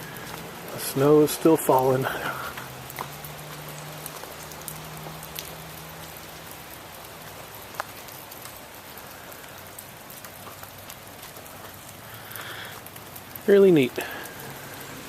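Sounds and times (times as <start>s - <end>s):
drips ticking on surfaces: 0.0s - 15.0s
wet snow falling hiss: 0.0s - 15.0s.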